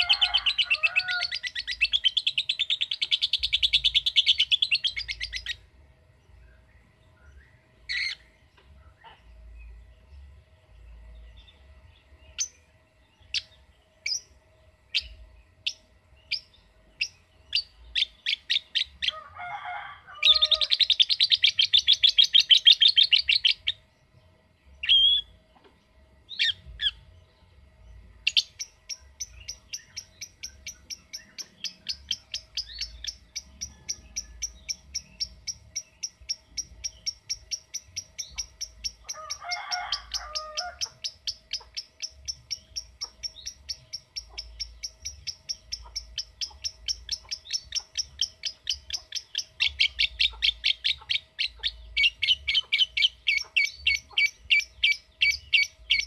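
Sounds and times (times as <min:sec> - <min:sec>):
lovebird chirping and trilling: 0:00.0 - 0:05.6, 0:07.9 - 0:08.4, 0:12.2 - 0:19.2, 0:20.2 - 0:23.9, 0:24.8 - 0:25.4, 0:26.3 - 0:27.2, 0:28.2 - 0:56.0.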